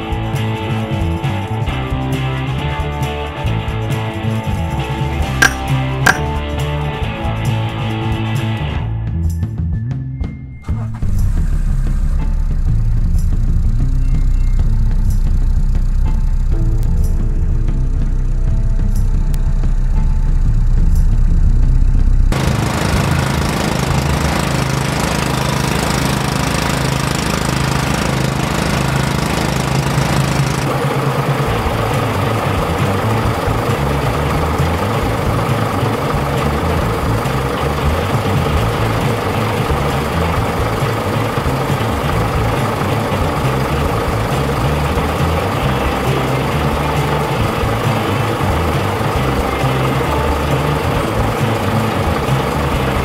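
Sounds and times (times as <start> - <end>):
vehicle engine running: 0.0 - 9.0, 10.5 - 53.0.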